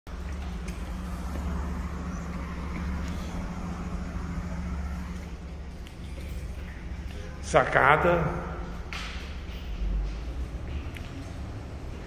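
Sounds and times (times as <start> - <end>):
street traffic rumble: 0.1 - 12.0.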